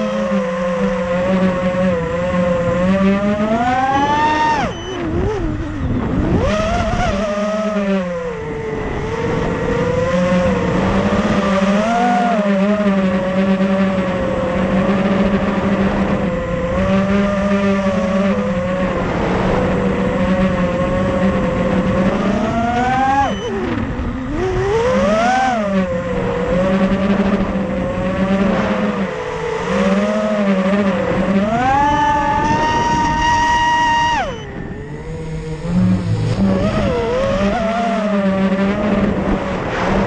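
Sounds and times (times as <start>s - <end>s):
drone motors buzzing whine: 0.0s - 40.0s.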